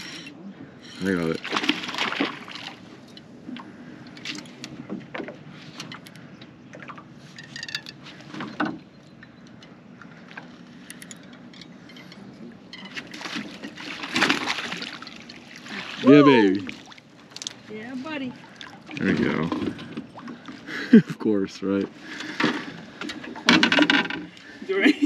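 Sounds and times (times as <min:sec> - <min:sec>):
water sloshing against boat hull: 0:00.0 - 0:21.0, 0:21.7 - 0:25.0.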